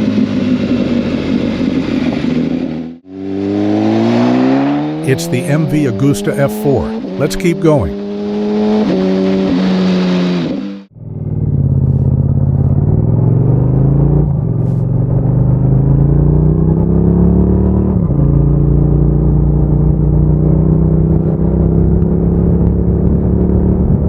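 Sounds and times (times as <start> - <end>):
motorcycle engine accelerating: 0.0 - 5.2, 6.9 - 7.2, 7.9 - 24.0.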